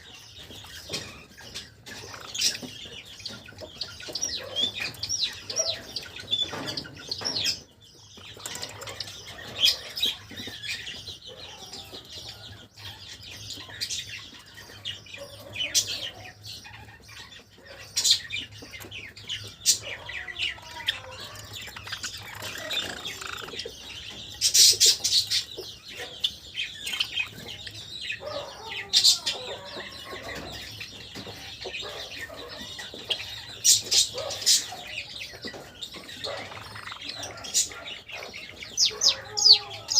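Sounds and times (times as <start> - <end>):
sparrows chirping and trilling: 0.0 - 39.9.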